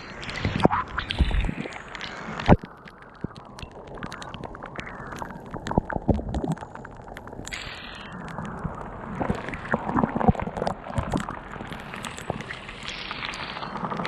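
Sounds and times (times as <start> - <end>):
rainwater dripping: 0.0 - 14.0.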